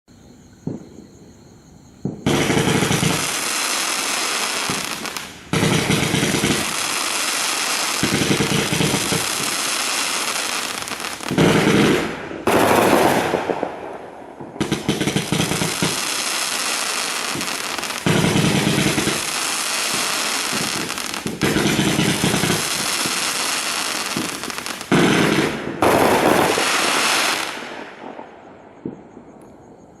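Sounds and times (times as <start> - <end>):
fireworks cake firing shots: 2.0 - 29.1.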